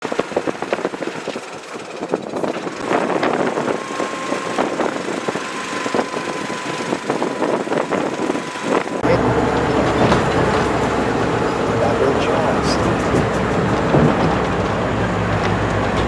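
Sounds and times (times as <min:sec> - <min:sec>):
pulleys rattling on cable: 0:00.0 - 0:14.8
steady whine: 0:00.2 - 0:16.0.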